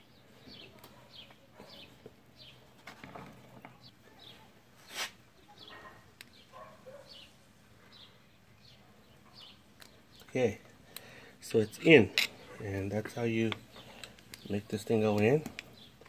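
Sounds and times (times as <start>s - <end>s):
small bird chirping: 0.0s - 2.7s, 3.8s - 16.0s.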